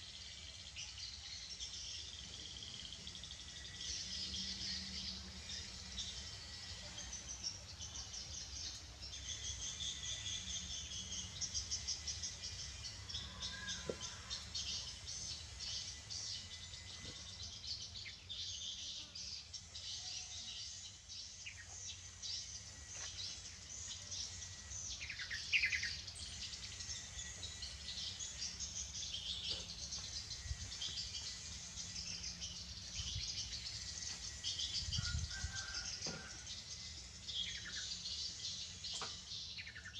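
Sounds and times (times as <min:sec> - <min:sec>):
birds chirping: 0:00.0 - 0:39.9
insects trilling: 0:00.0 - 0:39.9.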